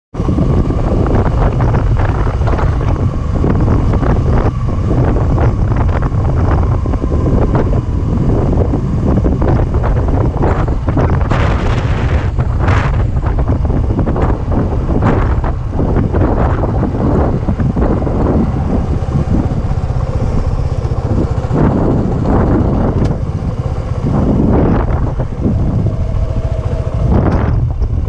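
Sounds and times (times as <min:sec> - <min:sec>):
motorcycle engine running: 0:00.1 - 0:28.0
wind buffeting microphone: 0:00.1 - 0:28.0.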